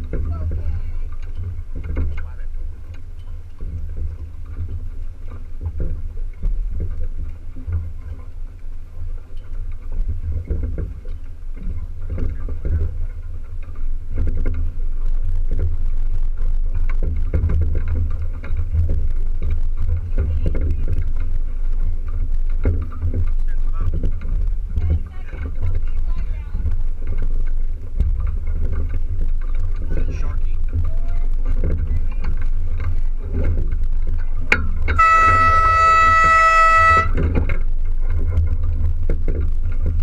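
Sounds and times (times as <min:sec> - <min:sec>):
water sloshing against hull: 0:00.0 - 0:40.0
wind rumbling on microphone: 0:00.0 - 0:40.0.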